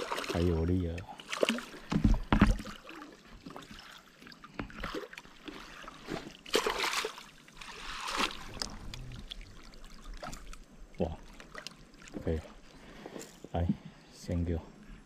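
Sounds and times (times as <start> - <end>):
fish thrashing and splashing water: 0.0 - 12.5.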